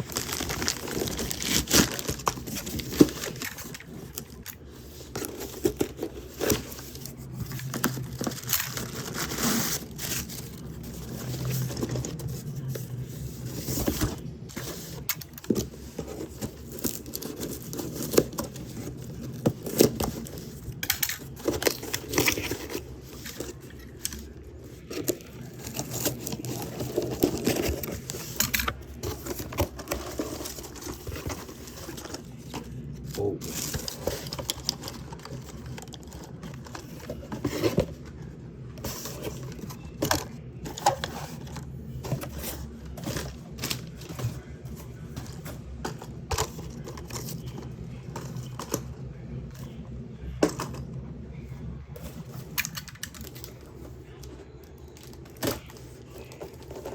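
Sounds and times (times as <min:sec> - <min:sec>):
packing tearing and scraping: 0:00.0 - 0:49.8
plastic packaging crinkling: 0:00.0 - 0:49.8.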